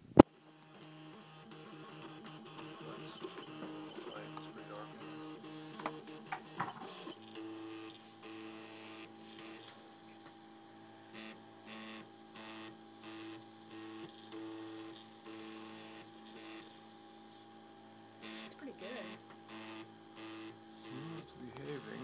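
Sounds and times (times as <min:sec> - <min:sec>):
constant tone: 0:00.0 - 0:22.0
stepper motors whining: 0:00.4 - 0:22.0.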